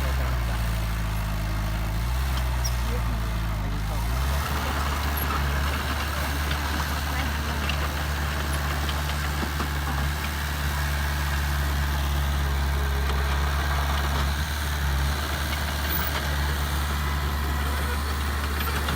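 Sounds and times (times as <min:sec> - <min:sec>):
heavy diesel engine running: 0:00.0 - 0:18.9.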